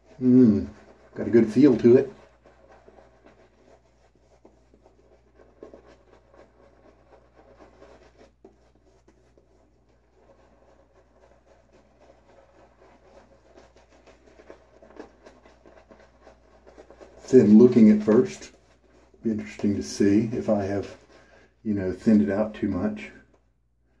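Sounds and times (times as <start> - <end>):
shaving brush scrubbing lather: 0.0 - 23.0.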